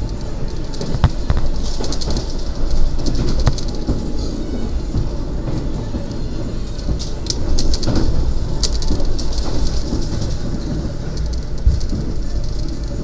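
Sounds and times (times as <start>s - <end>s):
train wheels rumbling on rails: 0.0s - 13.0s
wheels clicking over track: 0.0s - 13.0s.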